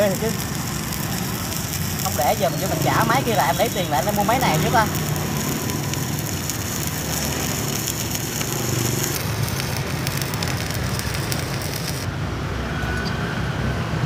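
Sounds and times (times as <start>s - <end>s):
welding arc burning: 0.0s - 12.3s.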